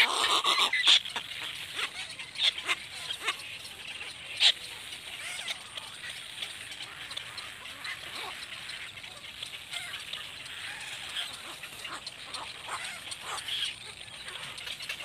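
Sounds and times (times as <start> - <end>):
cormorant chicks begging calls: 0.0 - 15.0.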